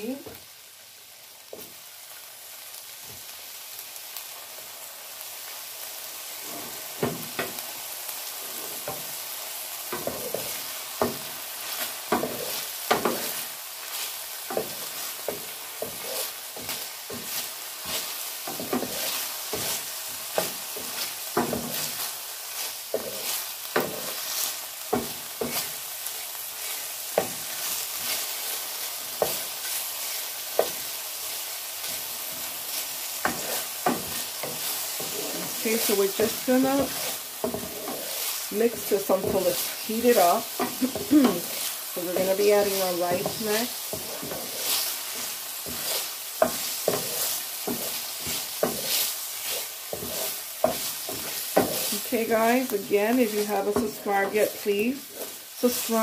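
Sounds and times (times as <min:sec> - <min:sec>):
vegetables sizzling in oil: 0:00.0 - 0:56.0
spatula scraping a pan: 0:08.3 - 0:56.0.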